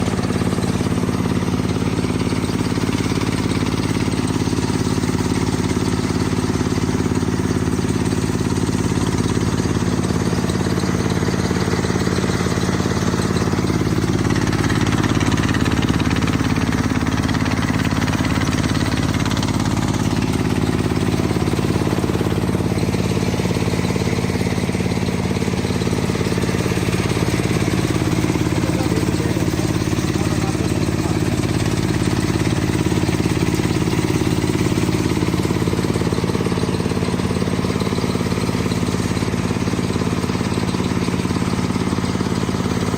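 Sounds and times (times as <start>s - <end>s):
harvester engine running: 0.0s - 42.9s.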